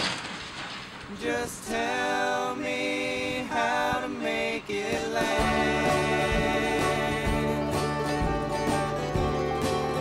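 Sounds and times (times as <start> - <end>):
song with singing voices: 1.1 - 9.5.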